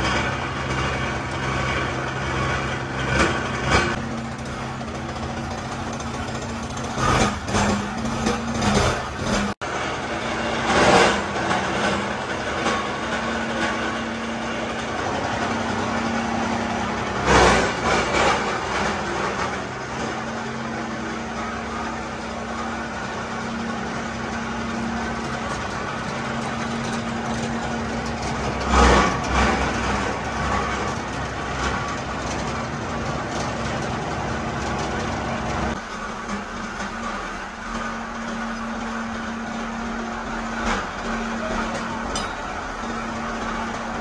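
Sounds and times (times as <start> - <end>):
workshop machinery hum: 0.0 - 44.0.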